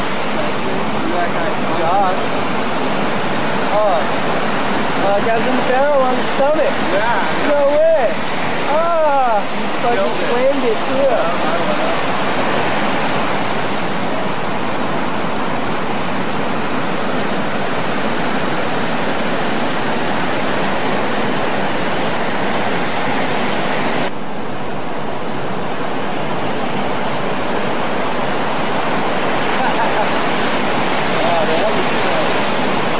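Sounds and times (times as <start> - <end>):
ocean surf breaking: 0.0 - 32.9.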